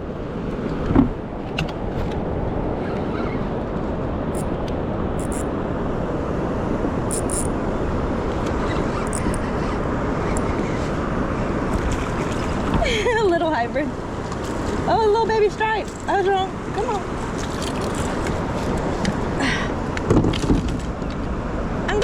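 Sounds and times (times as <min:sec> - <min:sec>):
water sounds: 0:00.0 - 0:22.0
wind noise on microphone: 0:00.0 - 0:22.0.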